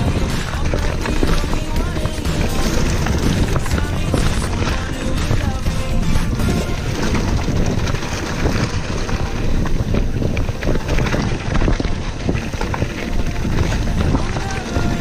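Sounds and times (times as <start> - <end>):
bike clicks and rattles: 0.0 - 15.0
bike tyres rolling on gravel: 0.0 - 15.0
wind buffeting microphone: 0.0 - 15.0.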